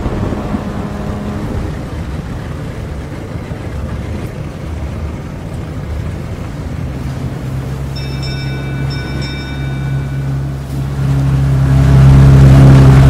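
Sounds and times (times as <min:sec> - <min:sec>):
off-road vehicle rumble: 0:00.0 - 0:13.0.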